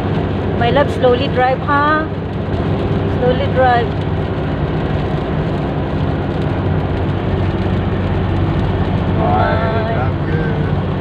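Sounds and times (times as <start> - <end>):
car engine hum: 0.0 - 11.0
rain and tyres hissing on wet road: 0.0 - 11.0.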